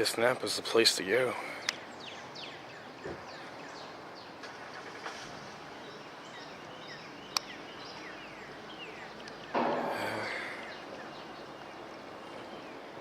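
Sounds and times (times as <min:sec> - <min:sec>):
birds chirping: 0:00.0 - 0:13.0
steady background hiss: 0:00.0 - 0:13.0.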